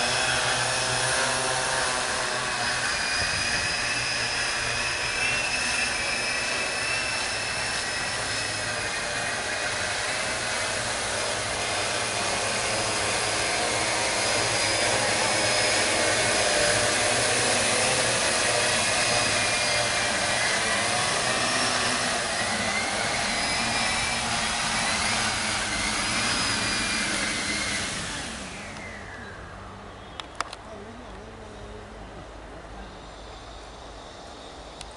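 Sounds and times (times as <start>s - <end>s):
drone propellers whirring: 0.0s - 34.9s.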